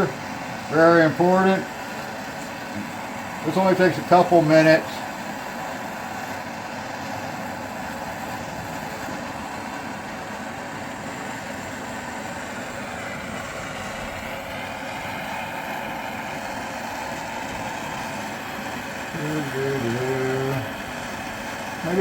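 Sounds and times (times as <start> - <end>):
gas torch hissing: 0.0 - 22.0.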